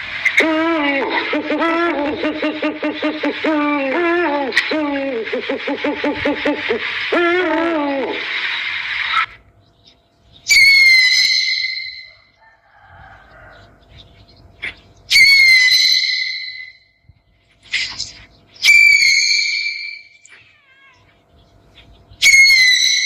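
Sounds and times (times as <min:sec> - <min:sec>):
owl calling: 0:00.0 - 0:09.4, 0:10.4 - 0:17.0, 0:17.6 - 0:23.0.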